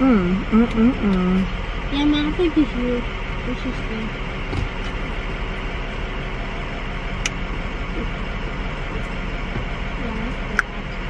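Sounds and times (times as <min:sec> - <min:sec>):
car running from inside cabin: 0:00.0 - 0:11.0.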